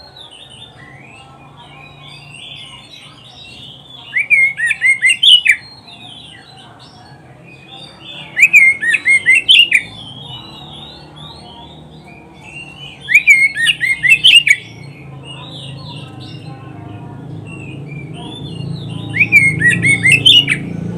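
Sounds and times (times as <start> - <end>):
magpie-robin singing whistled notes: 0.0 - 16.5, 17.4 - 20.9.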